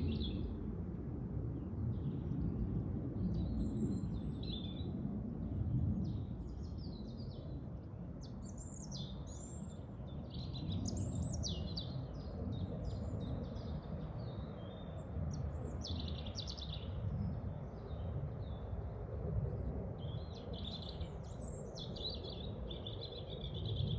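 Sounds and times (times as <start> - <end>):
low rumble of wind: 0.0 - 23.9.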